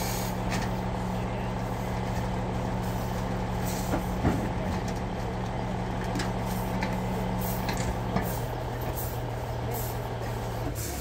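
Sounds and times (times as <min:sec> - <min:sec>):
heavy engine humming: 0:00.0 - 0:11.0.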